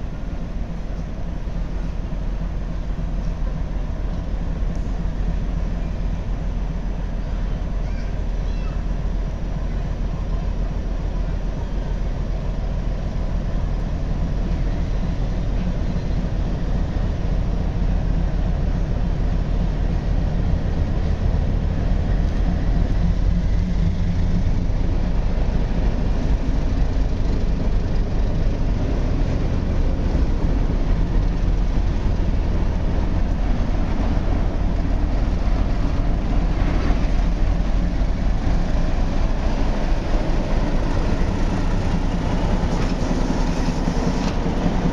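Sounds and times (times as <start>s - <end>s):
diesel locomotive engine rumbling: 0.0s - 44.9s.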